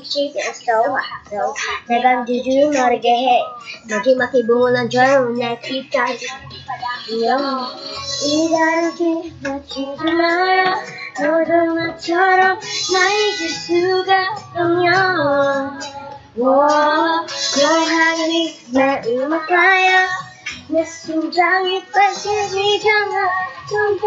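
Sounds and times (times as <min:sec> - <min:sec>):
child singing pop song: 0:00.0 - 0:24.0.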